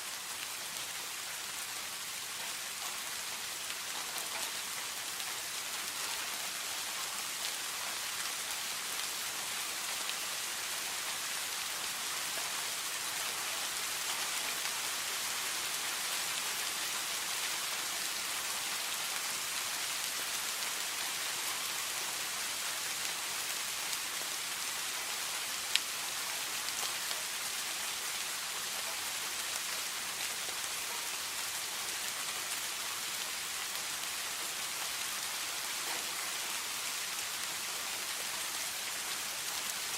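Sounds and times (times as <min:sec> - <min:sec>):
steady rain hiss: 0:00.0 - 0:39.9
faint rain ticks: 0:00.2 - 0:39.9.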